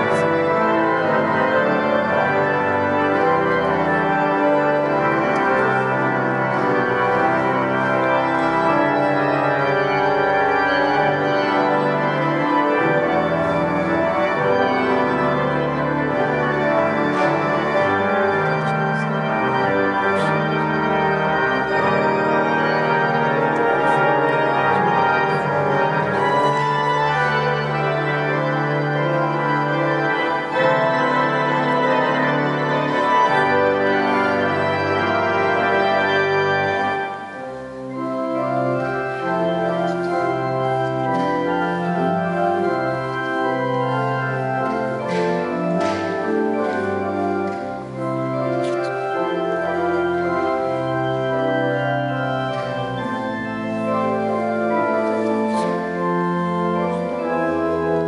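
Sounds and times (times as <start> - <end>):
organ playing chords: 0.0 - 58.0.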